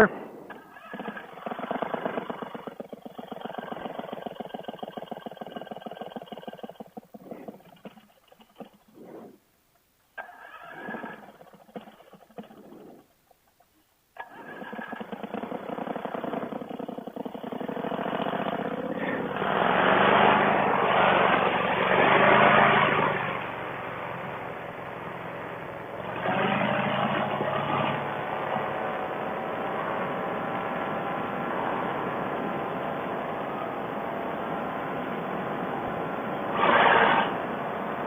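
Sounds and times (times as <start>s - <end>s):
paramotor engine revving: 0.0s - 6.3s, 10.2s - 12.9s, 14.2s - 38.0s.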